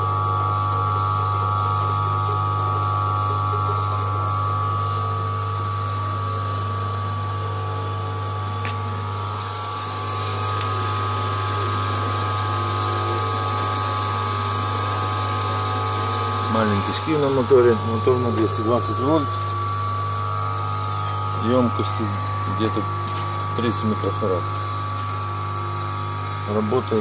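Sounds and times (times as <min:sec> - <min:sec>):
electric motor hum and whine: 0:00.0 - 0:27.0.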